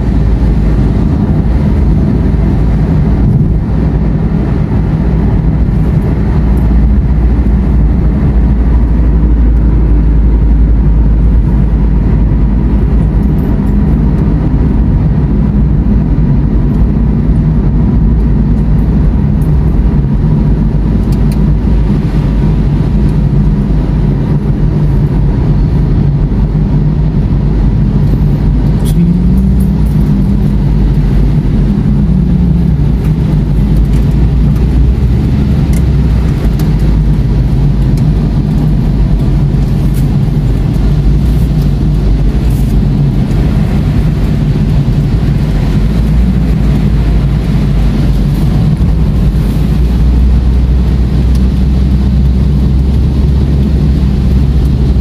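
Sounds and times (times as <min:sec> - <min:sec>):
car engine and tyres droning: 0:00.0 - 0:55.0.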